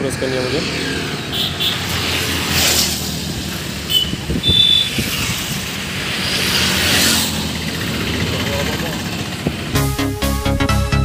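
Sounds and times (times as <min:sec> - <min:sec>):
motorcycles passing: 0:00.0 - 0:09.8.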